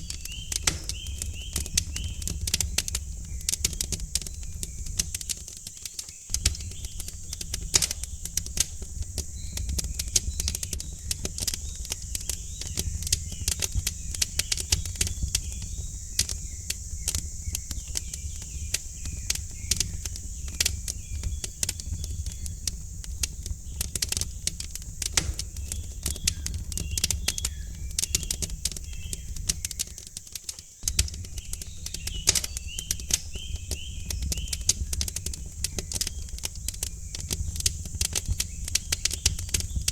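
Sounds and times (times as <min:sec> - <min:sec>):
faint birdsong chirps: 0:00.0 - 0:39.9
wood fire crackling: 0:00.0 - 0:39.9.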